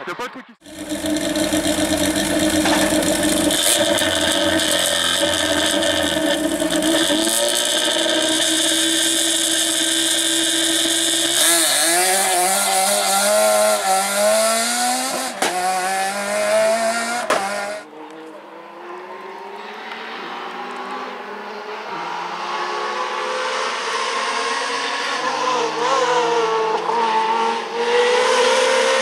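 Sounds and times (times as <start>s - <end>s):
rally car engine: 0.6s - 29.0s.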